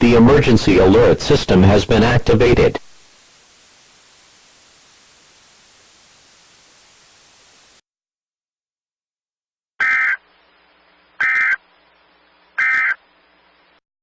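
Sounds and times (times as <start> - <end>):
static hiss: 0.0 - 7.8, 9.8 - 13.8.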